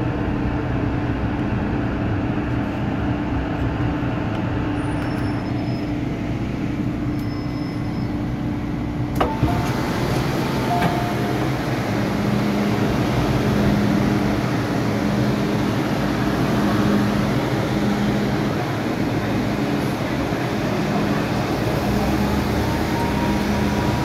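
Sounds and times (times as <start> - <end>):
train hum and rumble: 0.0 - 24.0.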